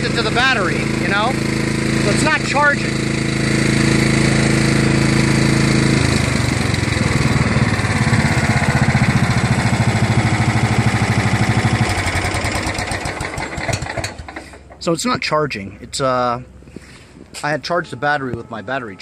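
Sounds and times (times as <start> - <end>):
lawn tractor engine running: 0.0 - 15.6.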